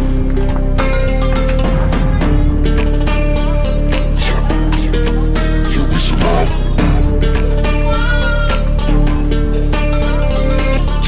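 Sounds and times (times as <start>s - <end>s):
hip-hop beat with heavy bass: 0.8s - 11.0s.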